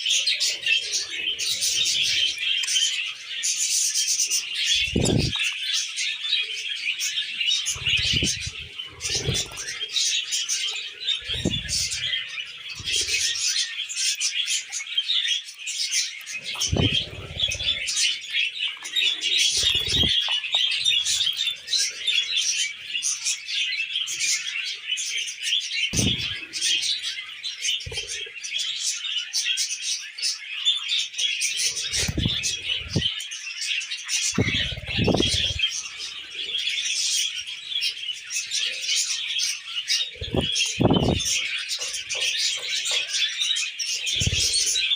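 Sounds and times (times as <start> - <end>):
budgerigars chattering: 0.0 - 44.9.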